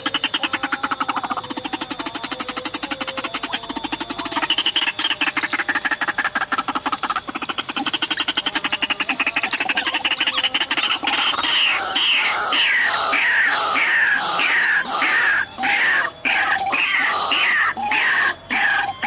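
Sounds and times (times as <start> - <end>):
loud falling bird calls: 0.0 - 19.0
waterhen croaking notes: 0.0 - 19.0.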